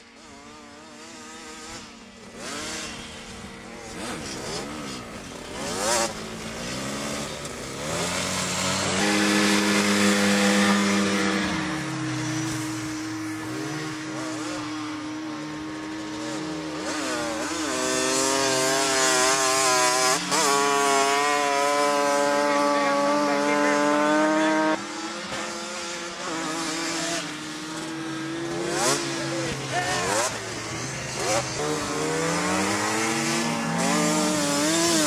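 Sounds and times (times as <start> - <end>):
snow vehicle engine revving: 0.0 - 35.0.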